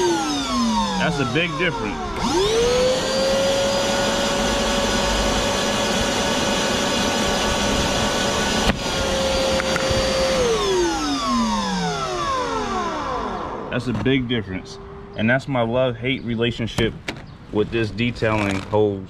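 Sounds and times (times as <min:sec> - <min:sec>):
shop vacuum whining: 0:00.0 - 0:15.4.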